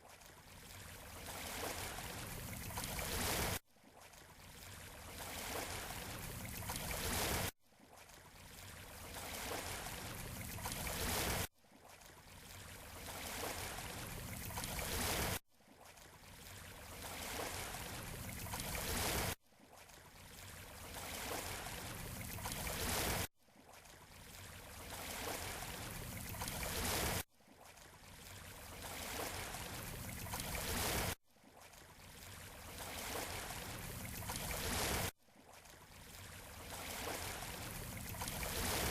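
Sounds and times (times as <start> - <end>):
waves washing on shore: 0.0 - 3.6, 4.2 - 15.4, 16.0 - 19.4, 20.1 - 38.9.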